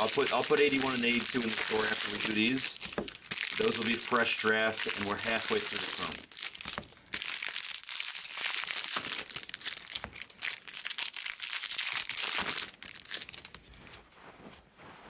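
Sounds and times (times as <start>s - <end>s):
plastic wrappers crinkling and tearing: 0.0s - 13.8s.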